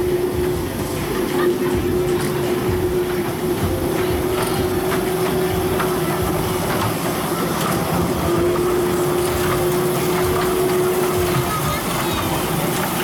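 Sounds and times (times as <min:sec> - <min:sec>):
kiddie ride train hum: 0:00.0 - 0:13.0.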